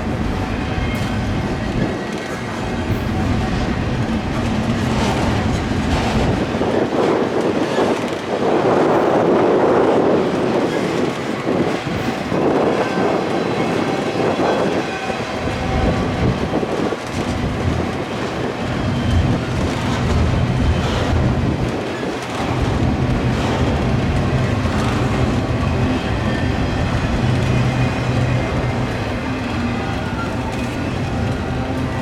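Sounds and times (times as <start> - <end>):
train wheels clacking: 0.0 - 32.0.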